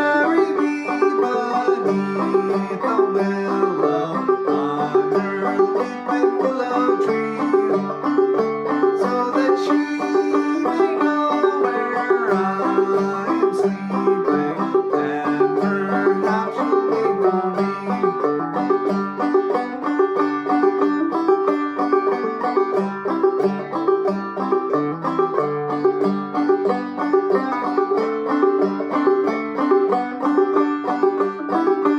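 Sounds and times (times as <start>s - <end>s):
banjo plucked melody: 0.0s - 31.9s.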